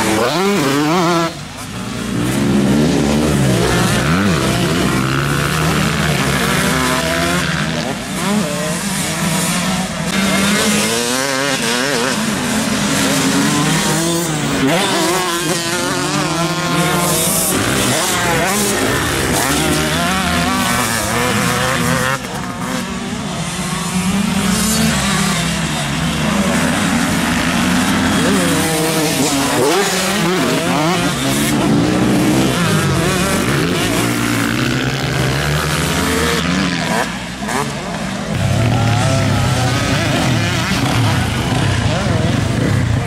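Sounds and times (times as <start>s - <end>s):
motocross bikes revving: 0.0s - 43.0s.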